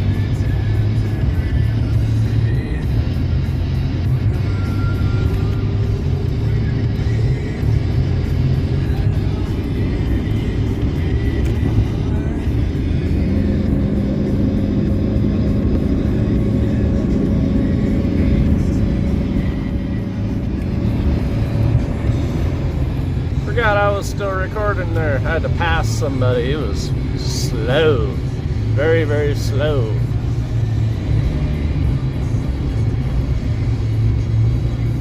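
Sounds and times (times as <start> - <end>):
car radio music: 0.0 - 35.0
road and engine rumble: 0.0 - 35.0
steady hum: 0.0 - 35.0.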